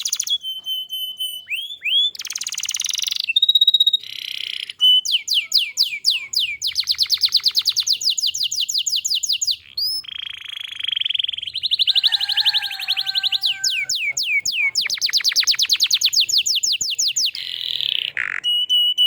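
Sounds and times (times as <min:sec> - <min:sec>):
canary singing: 0:00.0 - 0:19.0.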